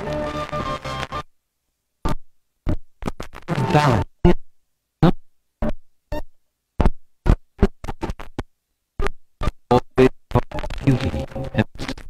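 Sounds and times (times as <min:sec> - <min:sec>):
chopped record sample: 0:00.0 - 0:01.3, 0:02.0 - 0:04.4, 0:05.0 - 0:12.0.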